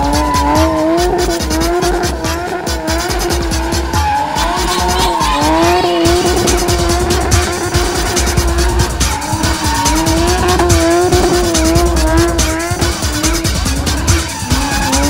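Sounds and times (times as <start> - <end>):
tyre squeal: 0.0 - 2.0, 3.2 - 15.0
car engine revving: 0.0 - 15.0
music with steady beat: 0.0 - 15.0.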